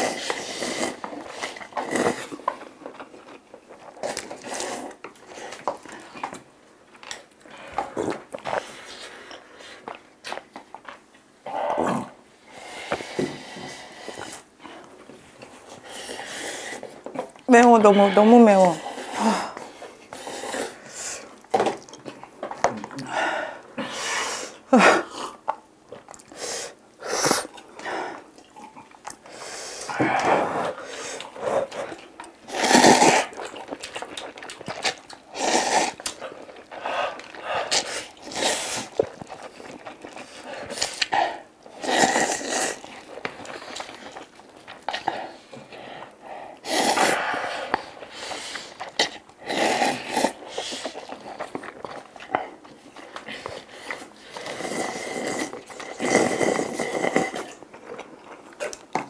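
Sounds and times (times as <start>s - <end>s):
noodle slurping and chewing: 0.0s - 59.0s.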